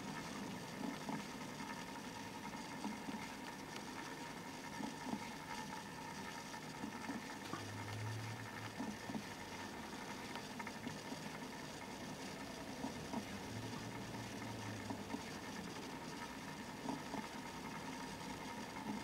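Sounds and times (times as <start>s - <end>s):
faint ticks: 0.0s - 19.0s.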